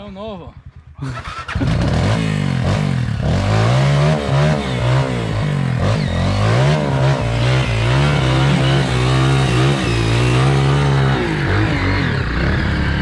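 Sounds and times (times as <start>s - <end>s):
vehicle engine revving: 1.0s - 13.0s.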